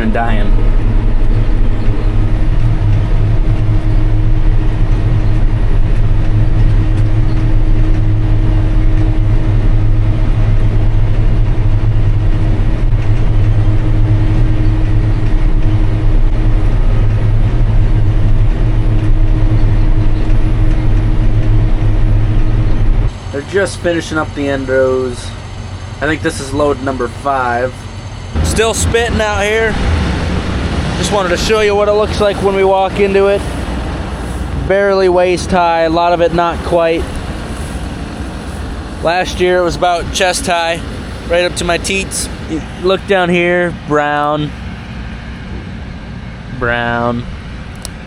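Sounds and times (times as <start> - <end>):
diesel engine running under load: 0.0 - 48.0
steady hum: 0.0 - 48.0.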